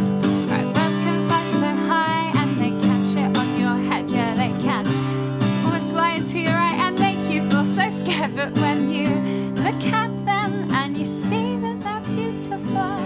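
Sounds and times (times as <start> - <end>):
strummed acoustic guitar: 0.0 - 13.0
woman singing with vibrato: 0.5 - 13.0.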